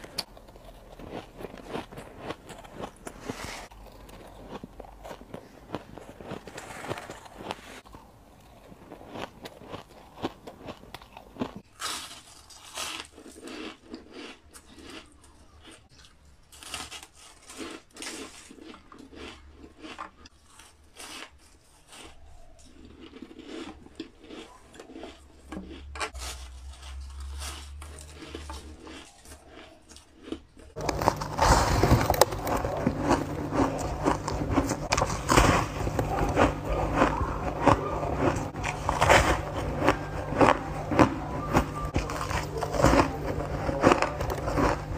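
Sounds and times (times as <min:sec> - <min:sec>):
person chewing crunchy ice: 0:00.0 - 0:44.9.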